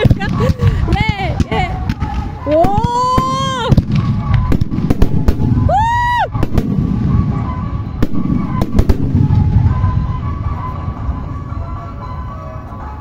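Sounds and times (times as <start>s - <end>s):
fireworks bangs: 0.0s - 11.3s
low rumble: 0.0s - 13.0s.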